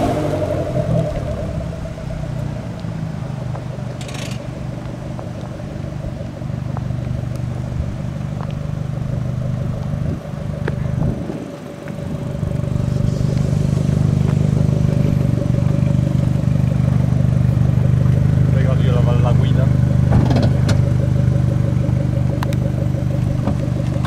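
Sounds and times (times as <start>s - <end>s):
car engine at low revs: 0.0s - 24.0s.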